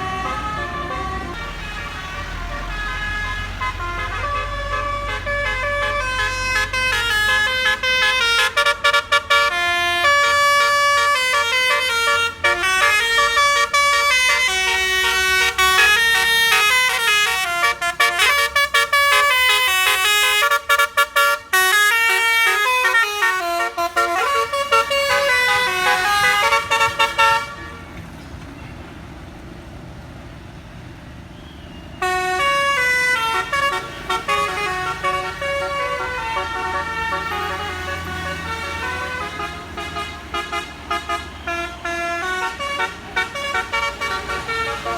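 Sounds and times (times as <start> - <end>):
musical bus horn melody: 0.0 - 28.0, 31.9 - 44.9
road noise: 0.0 - 44.9.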